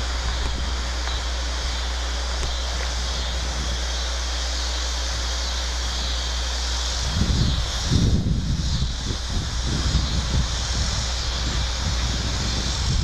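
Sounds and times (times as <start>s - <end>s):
wind buffeting microphone: 0.0s - 4.0s, 5.0s - 13.0s
crickets chirping: 0.0s - 13.0s.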